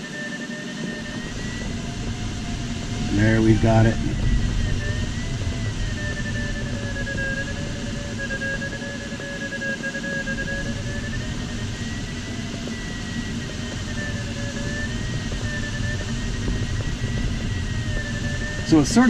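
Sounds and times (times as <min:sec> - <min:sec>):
variometer electronic tone: 0:00.0 - 0:19.0
air rushing past cockpit: 0:00.3 - 0:19.0.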